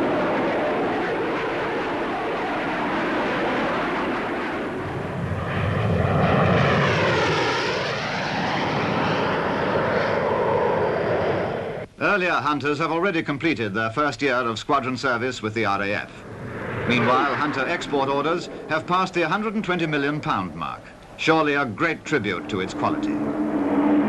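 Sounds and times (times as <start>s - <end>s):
jet engine roar of passing aircraft: 0.0s - 11.9s, 16.1s - 24.0s.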